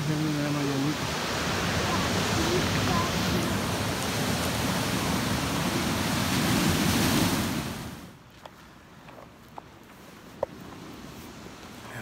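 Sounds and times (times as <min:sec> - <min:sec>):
ocean surf on rocky beach: 0:00.0 - 0:12.0.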